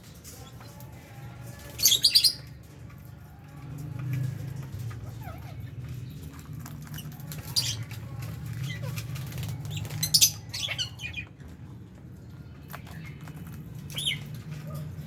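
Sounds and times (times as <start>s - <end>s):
birds scratching and clicking: 0.0s - 15.0s.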